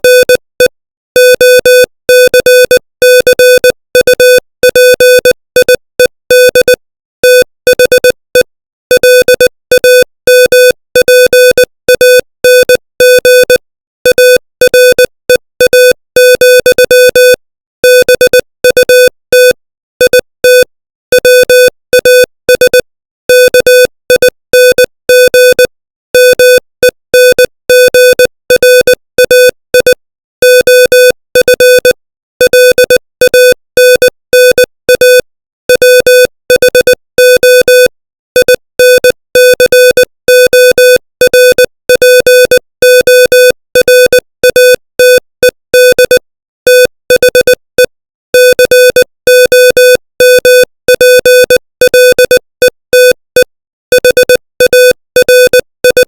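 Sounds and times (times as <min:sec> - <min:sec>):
morse code beeps: 0:00.0 - 0:56.0.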